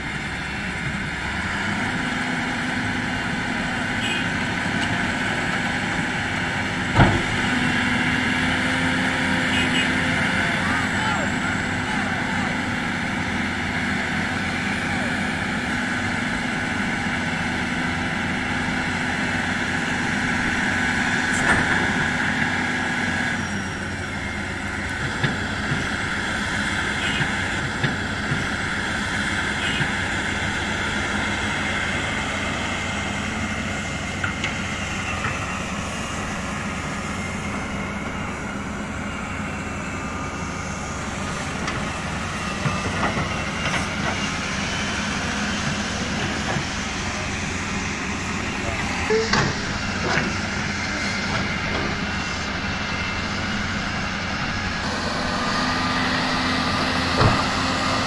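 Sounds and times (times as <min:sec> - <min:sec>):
excavator diesel engines running: 0:00.0 - 0:58.0.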